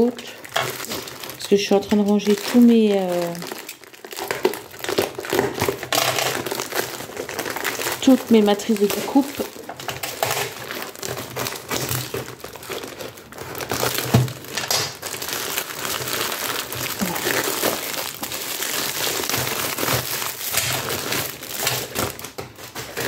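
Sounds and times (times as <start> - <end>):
plastic pouch crinkling: 0.0 - 23.0.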